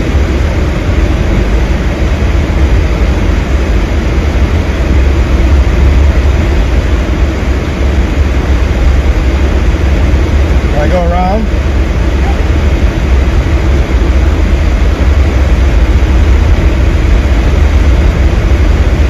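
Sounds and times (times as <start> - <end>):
wind blowing on microphone: 0.0 - 19.0.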